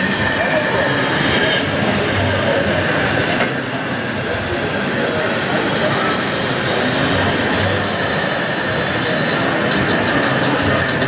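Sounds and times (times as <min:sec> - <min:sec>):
many voices murmuring: 0:00.0 - 0:11.0.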